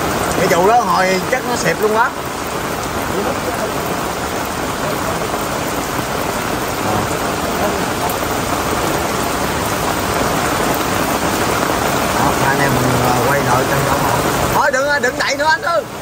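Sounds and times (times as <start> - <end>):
heavy rain on fabric umbrellas: 0.0 - 16.0.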